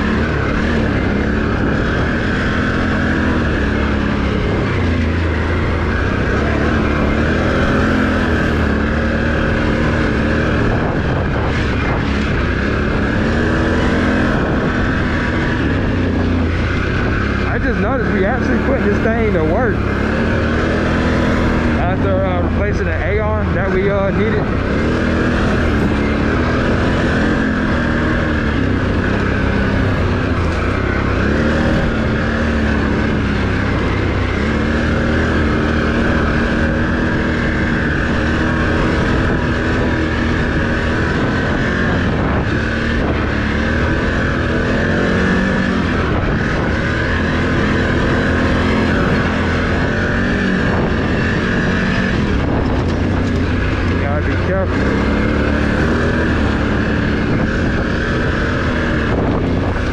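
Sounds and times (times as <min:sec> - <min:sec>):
atv engine revving: 0:00.0 - 0:59.9
wind and trail noise: 0:00.0 - 0:59.9.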